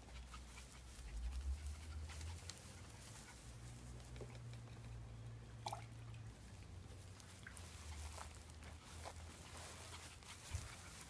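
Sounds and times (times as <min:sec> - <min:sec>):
small dogs: 0:00.0 - 0:05.0, 0:07.1 - 0:11.0.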